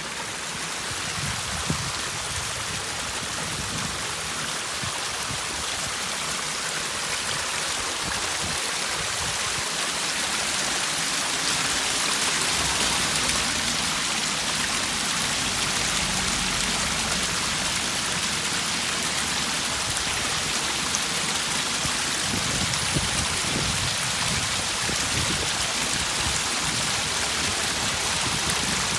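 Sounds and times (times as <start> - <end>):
water running down steps: 0.0 - 28.9.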